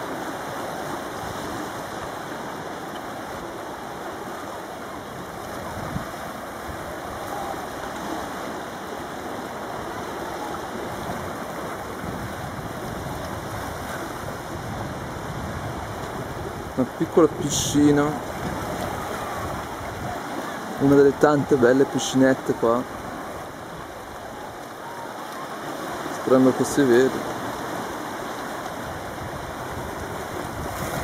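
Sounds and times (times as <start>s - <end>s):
sea water washing over rocks: 0.0s - 31.0s.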